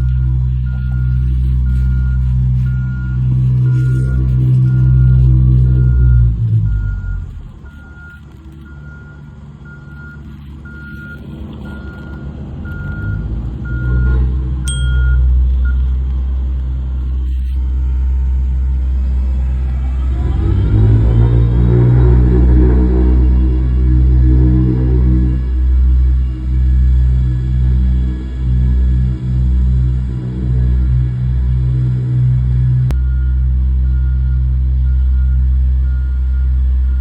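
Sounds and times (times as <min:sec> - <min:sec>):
reversing alarm beeping: 0:00.0 - 0:15.9, 0:17.3 - 0:37.0
construction vehicle engine: 0:00.0 - 0:37.0.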